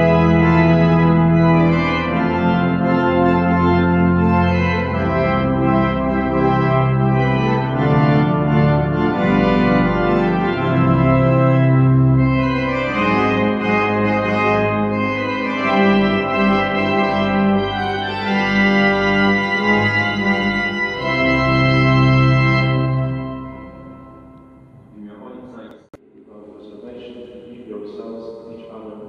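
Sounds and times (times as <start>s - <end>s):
church organ playing chords: 0.0s - 28.1s.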